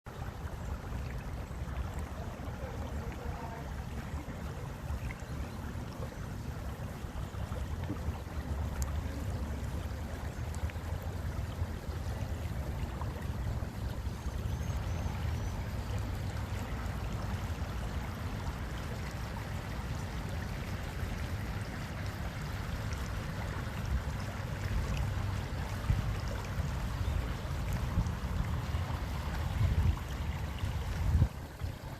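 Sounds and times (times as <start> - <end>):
flowing water rushing: 0.1 - 31.9.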